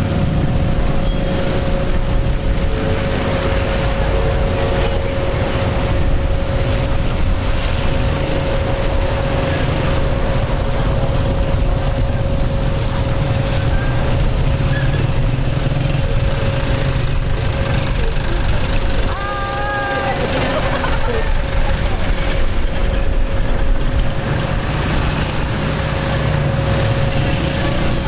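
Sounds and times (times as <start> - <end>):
low machinery rumble: 0.0 - 28.0.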